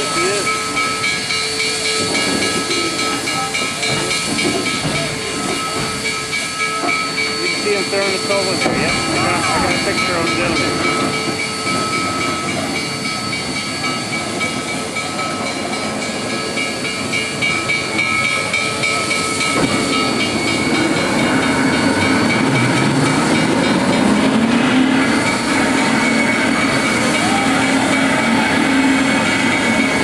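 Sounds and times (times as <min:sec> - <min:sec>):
steam hissing: 0:00.0 - 0:30.0.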